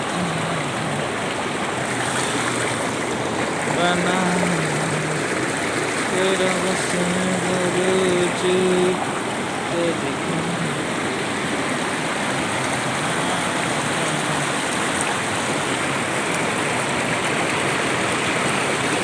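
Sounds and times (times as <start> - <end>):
water rushing: 0.0 - 19.0.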